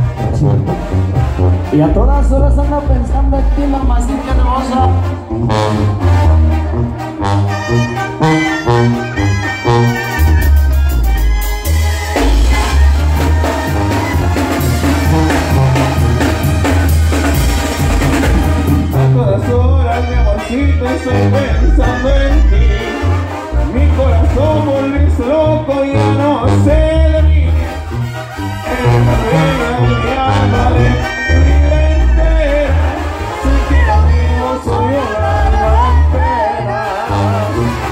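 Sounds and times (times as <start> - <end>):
brass band playing dance tune: 0.0 - 37.9
tuba bass notes: 0.0 - 37.9.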